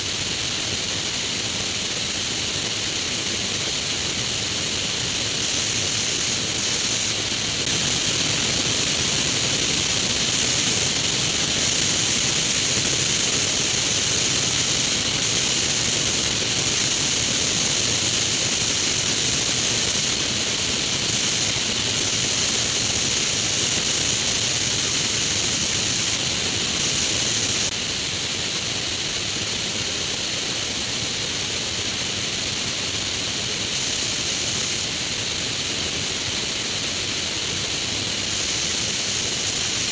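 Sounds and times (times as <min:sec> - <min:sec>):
airflow rushing hiss: 0:00.0 - 0:39.9.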